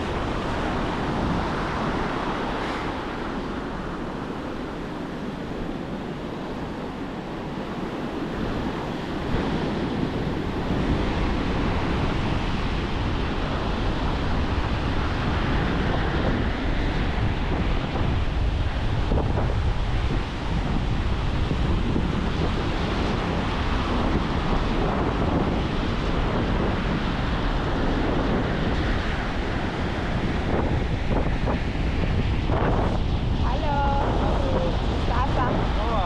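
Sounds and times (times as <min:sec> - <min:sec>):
ocean surf washing onto beach: 0:00.0 - 0:36.0
wind buffeting microphone: 0:00.0 - 0:36.0.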